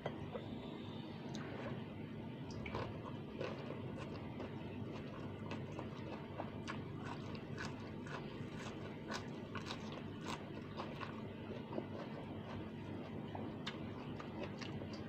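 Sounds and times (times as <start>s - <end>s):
person chewing crunchy food: 2.6s - 15.0s.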